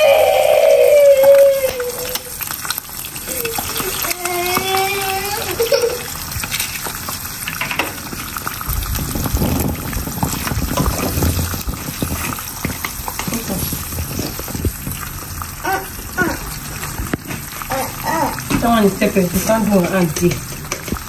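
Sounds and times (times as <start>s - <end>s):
eggs sizzling in oil: 0.0s - 21.0s.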